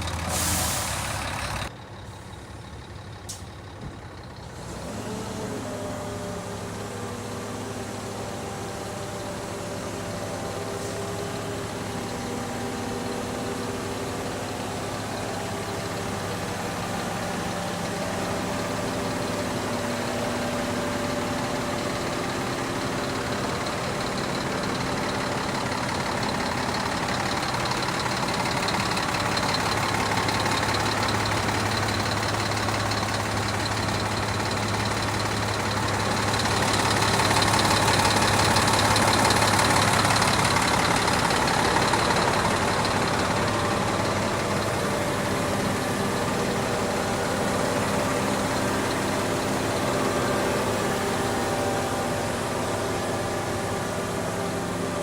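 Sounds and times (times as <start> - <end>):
truck engine running: 0.0 - 55.0.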